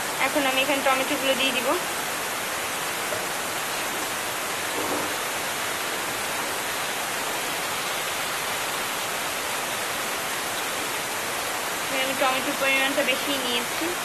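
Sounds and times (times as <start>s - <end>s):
vegetables frying in oil: 0.0s - 14.0s.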